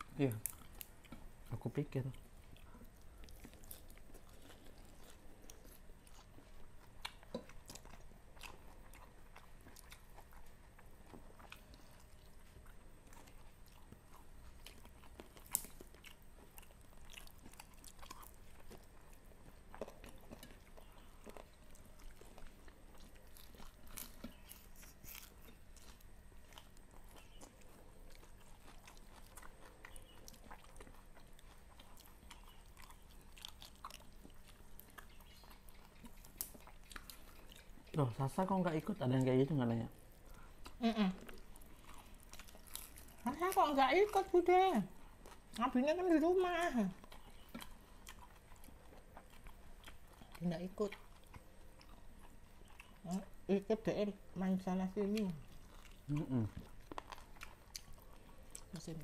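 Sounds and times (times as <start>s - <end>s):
people chewing food: 0.0s - 59.0s.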